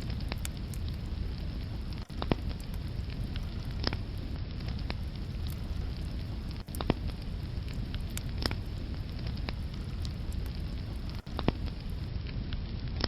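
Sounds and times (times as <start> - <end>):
wood fire crackling: 0.0 - 12.1.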